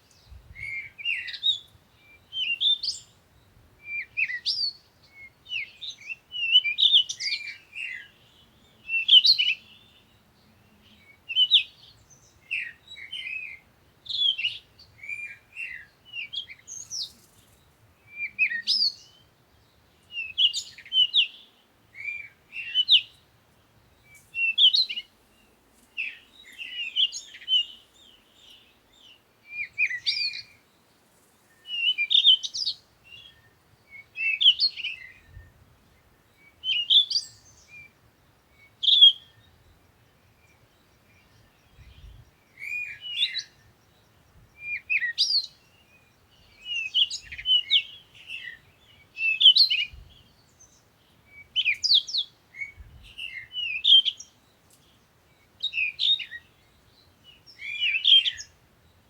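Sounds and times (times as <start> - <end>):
songbird twittering: 0.0 - 59.0.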